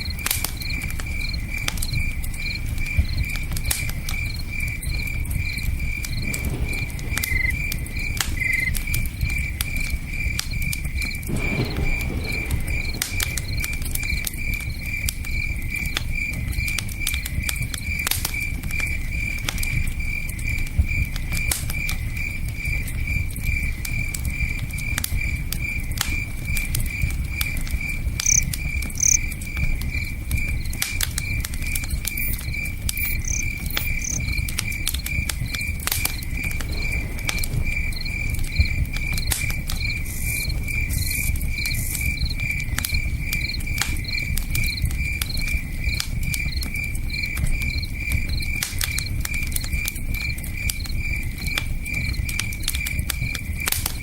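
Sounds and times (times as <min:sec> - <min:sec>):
campfire popping and crackling: 0:00.0 - 0:54.0
crickets chirping: 0:00.0 - 0:54.0.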